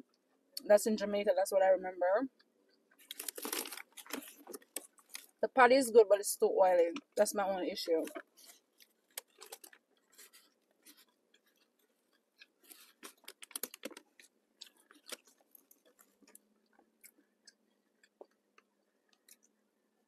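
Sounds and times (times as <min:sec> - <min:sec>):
chewing and crunching pastry: 0:02.3 - 0:05.4, 0:06.8 - 0:20.0
pastry crackling: 0:02.4 - 0:05.5, 0:06.3 - 0:19.6.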